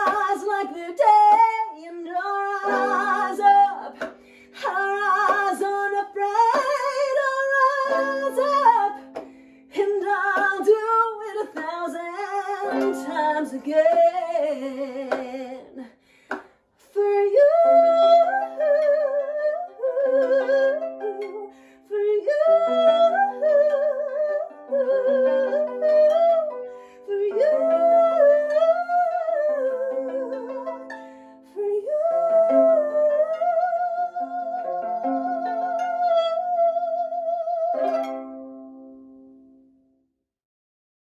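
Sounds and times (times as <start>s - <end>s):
woman singing with vibrato: 0.0s - 16.0s, 16.8s - 38.1s.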